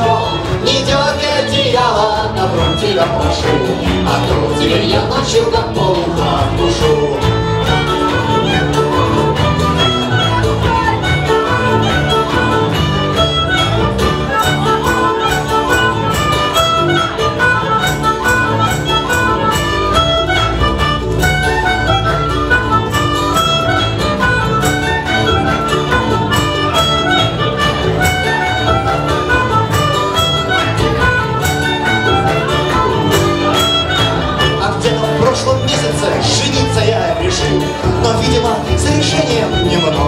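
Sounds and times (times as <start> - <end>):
fiddle tune: 0.0 - 40.0
folk band playing: 0.0 - 40.0
strummed acoustic guitars: 0.0 - 40.0.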